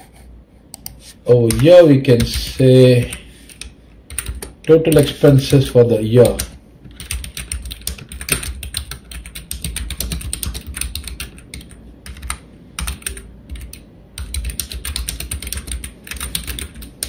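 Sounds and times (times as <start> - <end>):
typing on computer keyboard: 0.8 - 5.6, 6.2 - 17.0.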